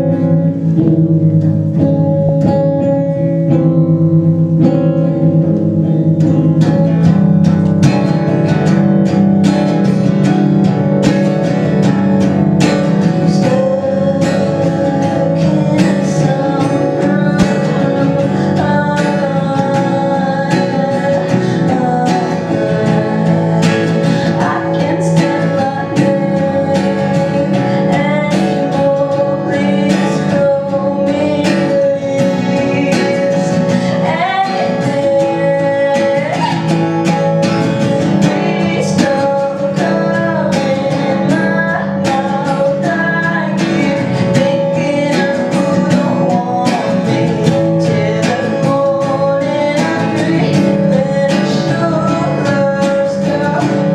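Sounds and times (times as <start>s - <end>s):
person singing: 0.0s - 53.9s
plucked guitar: 0.0s - 53.9s
strummed rhythm: 0.0s - 53.9s.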